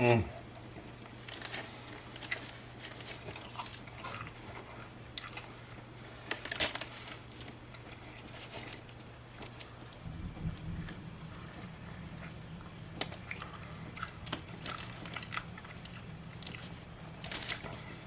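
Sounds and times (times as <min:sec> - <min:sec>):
steady low hum: 0:00.0 - 0:18.0
person chewing and biting burger: 0:00.5 - 0:18.0.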